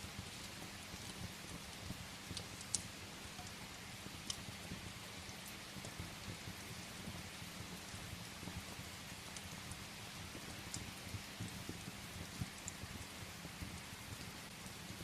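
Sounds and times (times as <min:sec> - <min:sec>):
firewood crackling: 0:00.0 - 0:15.0
rain hissing: 0:00.0 - 0:15.0.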